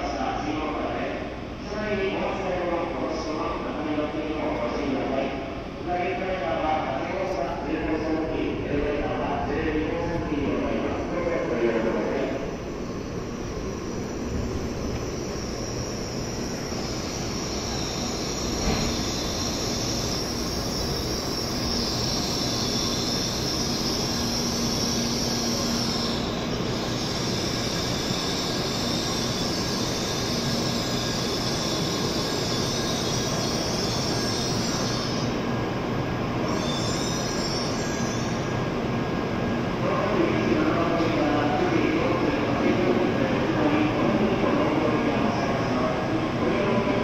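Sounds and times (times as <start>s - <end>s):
high-speed train whirring hiss: 0.0s - 47.0s.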